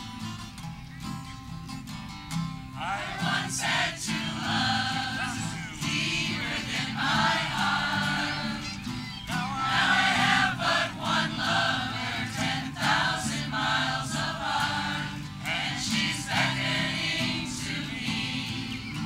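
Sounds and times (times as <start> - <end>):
strummed acoustic guitars: 0.0 - 19.0
group singing together: 2.8 - 19.0.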